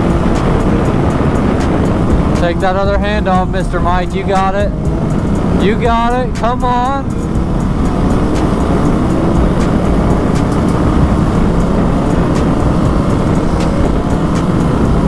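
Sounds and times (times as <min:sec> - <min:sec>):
dirt bike engine running: 0:00.0 - 0:15.0
wind rush on microphone: 0:00.0 - 0:15.0.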